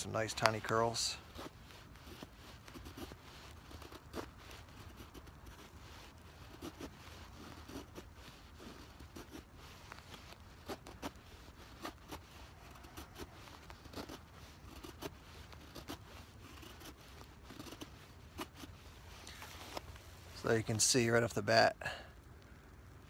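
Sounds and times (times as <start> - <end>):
knife scraping wood: 0.0 - 20.6.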